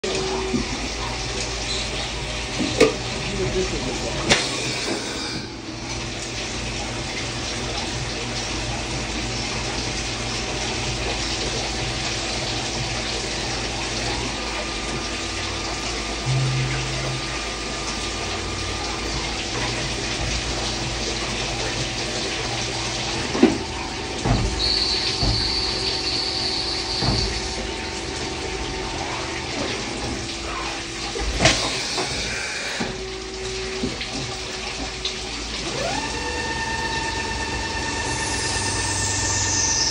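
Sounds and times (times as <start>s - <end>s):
cutting oil pouring and splashing: 0.0s - 39.9s
low machine hum: 0.0s - 39.9s.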